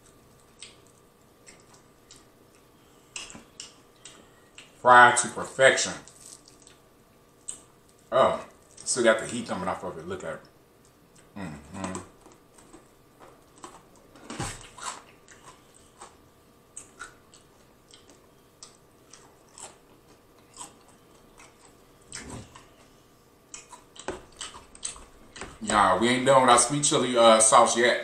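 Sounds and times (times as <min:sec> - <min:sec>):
crunchy chewing of fried chicken: 0:00.0 - 0:08.9, 0:10.8 - 0:25.6.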